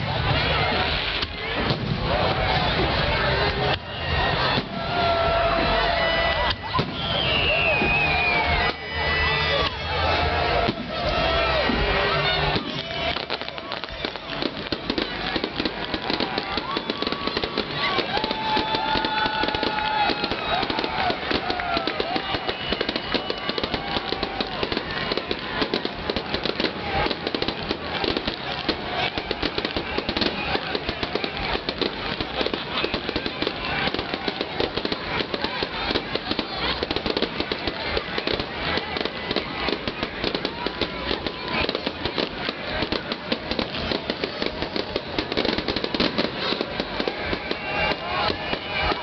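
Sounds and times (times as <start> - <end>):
fireworks crackling and popping: 0.0 - 49.0.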